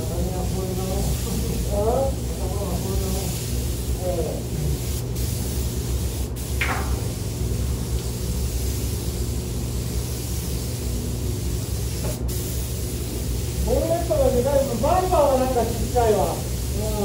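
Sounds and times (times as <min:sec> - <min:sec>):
air spray gun hissing: 0:00.0 - 0:17.0.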